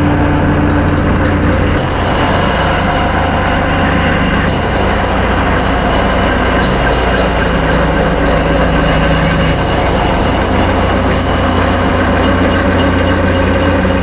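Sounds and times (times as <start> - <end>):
deep rumbling drone: 0.0 - 14.0
sustained tones: 0.0 - 14.0.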